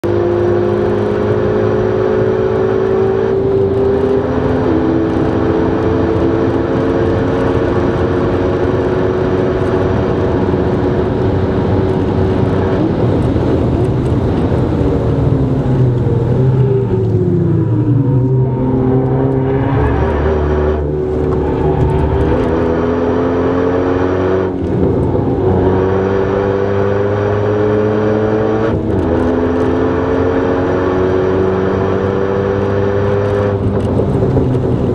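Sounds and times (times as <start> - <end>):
car engine at full throttle: 0.0 - 34.9.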